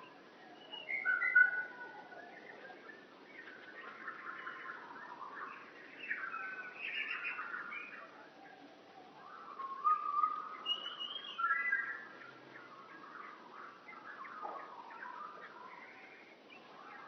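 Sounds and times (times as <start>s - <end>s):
birds singing and calling: 0.0s - 17.0s
faint steady hiss: 0.0s - 17.0s.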